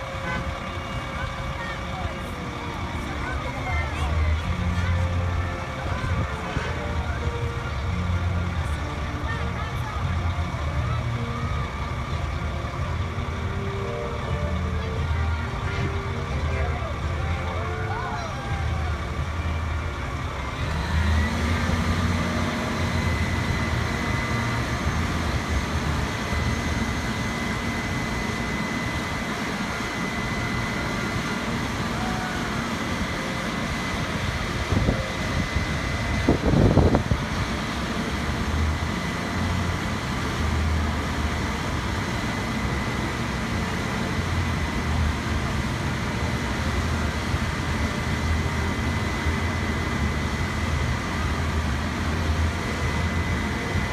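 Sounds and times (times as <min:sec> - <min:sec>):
diesel truck engine running: 0:00.0 - 0:53.9
steady high whine: 0:00.0 - 0:53.9.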